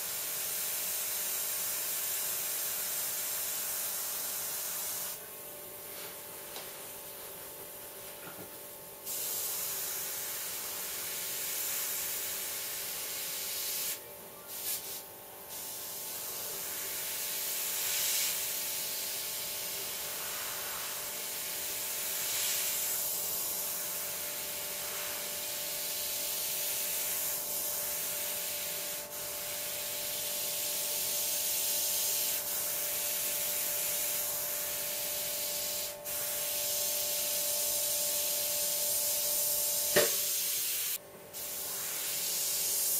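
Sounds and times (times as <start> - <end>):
airbrush spraying hiss: 0.0 - 5.2, 9.0 - 42.9.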